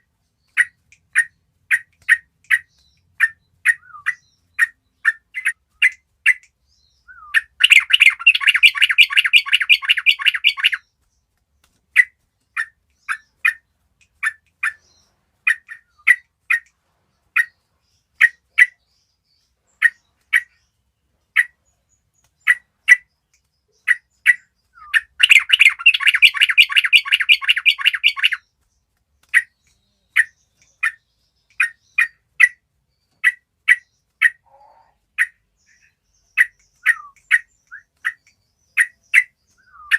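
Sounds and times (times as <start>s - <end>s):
bird rapid chattering: 0.0s - 6.6s, 7.2s - 16.7s, 22.2s - 34.6s, 35.2s - 39.9s
bird chirps: 0.0s - 39.9s.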